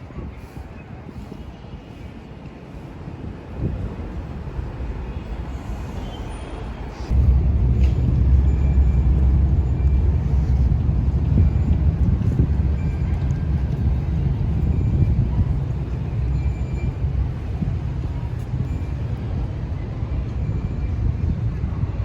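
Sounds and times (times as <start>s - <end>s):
city ambience low rumble: 0.0s - 22.0s.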